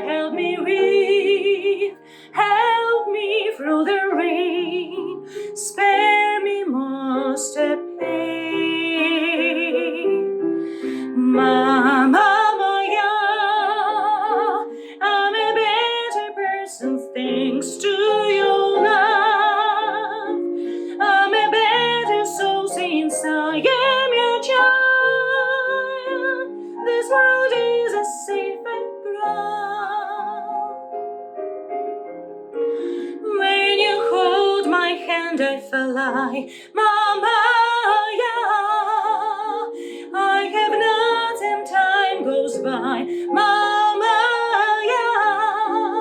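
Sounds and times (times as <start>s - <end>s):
woman singing a ballad: 0.0s - 30.8s, 32.8s - 46.0s
soft instrumental accompaniment: 0.0s - 46.0s.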